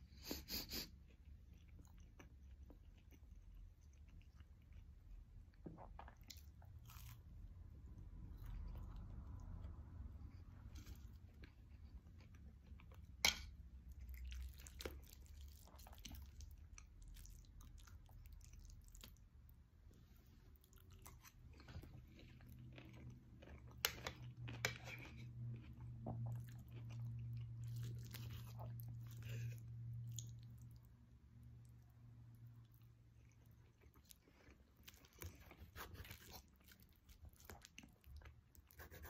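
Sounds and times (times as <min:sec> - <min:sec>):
low steady hum: 0:00.0 - 0:39.0
person chewing crunchy food: 0:01.0 - 0:30.9, 0:32.7 - 0:39.0.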